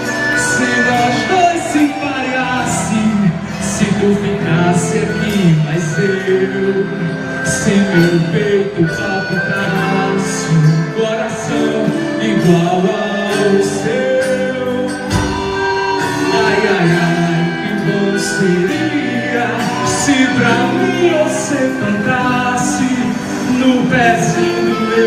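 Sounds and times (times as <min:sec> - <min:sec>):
festive folk music with singing: 0:00.0 - 0:25.0.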